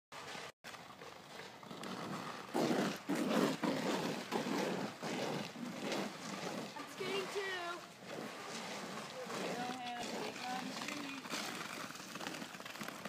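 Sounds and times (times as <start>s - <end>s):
scraping ice on street: 0.2s - 13.0s.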